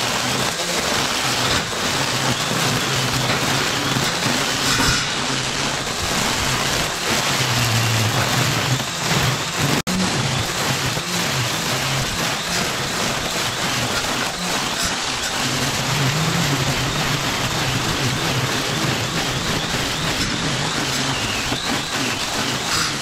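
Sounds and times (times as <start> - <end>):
grass being cut hiss: 0.0 - 23.0
string trimmer motor hum: 0.1 - 23.0.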